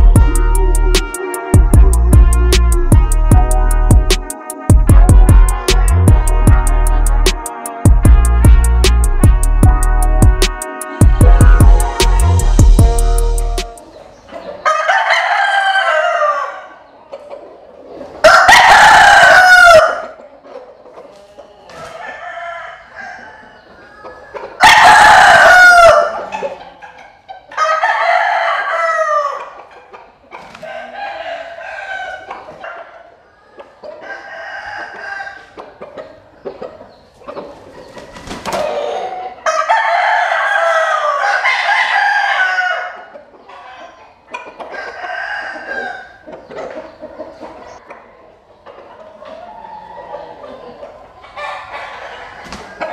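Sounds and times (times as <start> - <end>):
roosters crowing: 0.0 - 16.9, 18.1 - 20.2, 21.7 - 26.6, 27.5 - 29.8, 30.4 - 33.2, 33.8 - 35.6, 38.0 - 47.8, 49.2 - 52.9.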